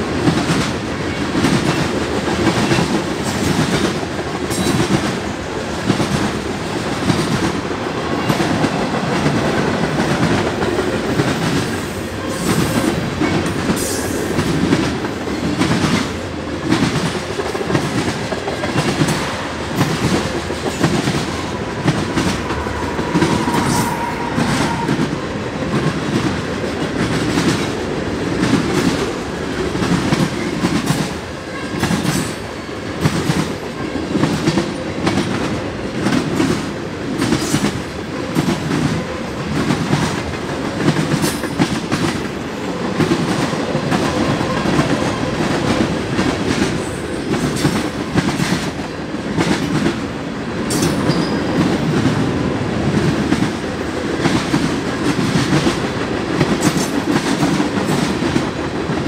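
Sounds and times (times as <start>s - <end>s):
train wheels clacking over rail joints: 0.0s - 5.2s, 5.8s - 50.0s, 52.9s - 59.0s
low train rumble: 0.0s - 59.0s.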